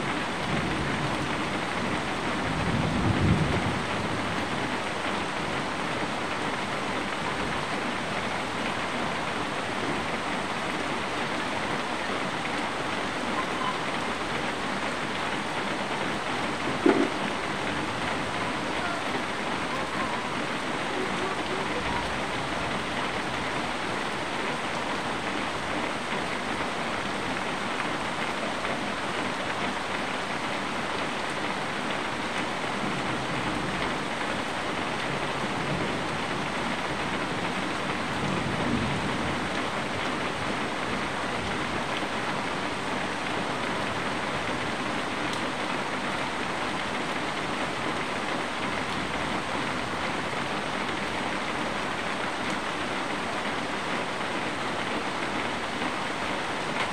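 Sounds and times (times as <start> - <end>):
rain falling on leaves: 0.0 - 56.9.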